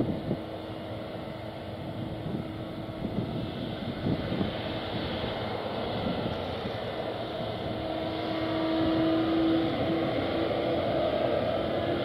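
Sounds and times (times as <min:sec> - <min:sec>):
jet engines whooshing at taxi power: 0:00.0 - 0:12.0.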